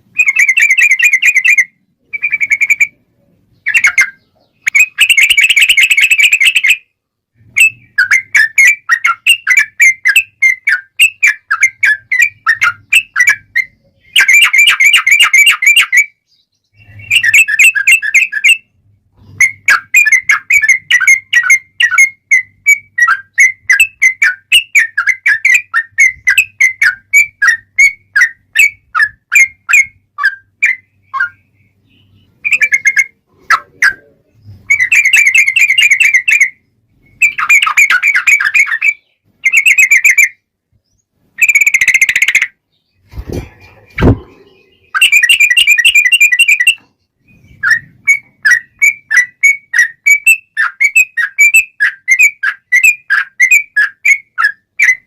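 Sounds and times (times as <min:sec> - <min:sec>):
bird singing rapid chattering phrases: 0:00.0 - 0:55.0.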